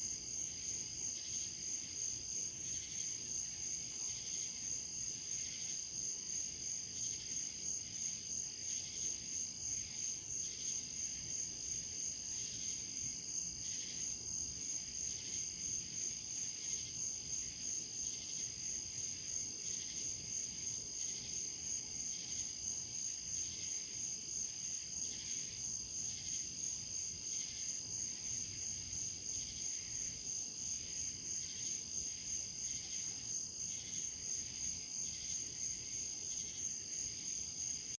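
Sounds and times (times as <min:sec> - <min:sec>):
crickets chirping: 0:00.0 - 0:37.9.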